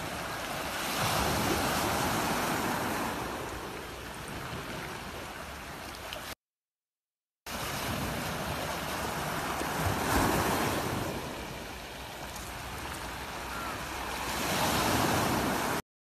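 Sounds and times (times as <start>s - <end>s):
sea surf washing on concrete: 0.0s - 6.4s, 7.5s - 15.8s.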